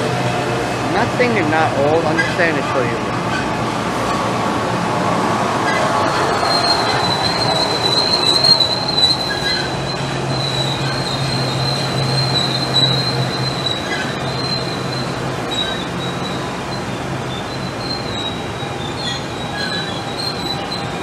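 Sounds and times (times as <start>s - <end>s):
electric train rolling past: 0.0s - 21.0s
high-pitched metallic squeal: 0.8s - 21.0s.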